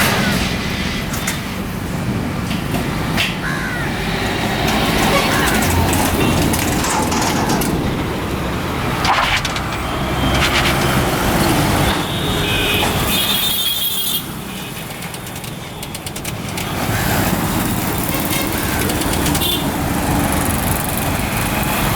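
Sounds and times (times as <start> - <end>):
street traffic: 0.0 - 21.9.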